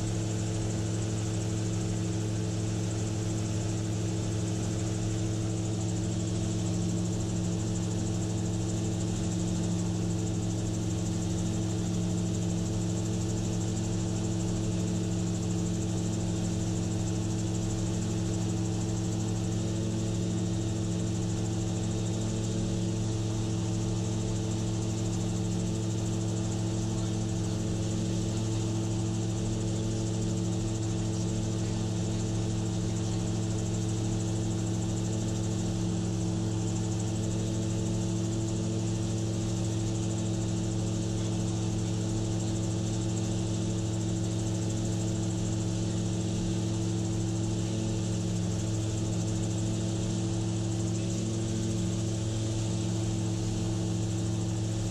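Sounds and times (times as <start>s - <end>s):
aircraft engine drone: 0.0s - 54.9s.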